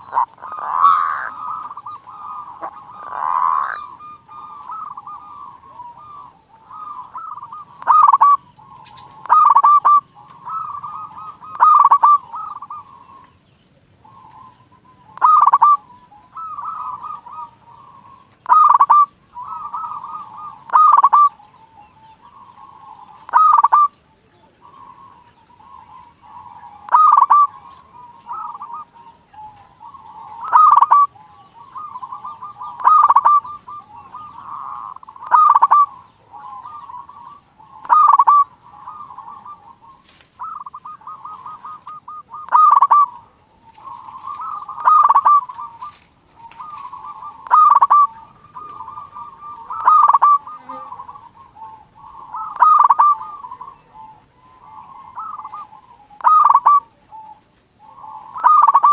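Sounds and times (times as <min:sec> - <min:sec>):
doves cooing softly: 0:00.0 - 0:58.9
loud sharp dove coo: 0:00.0 - 0:58.9.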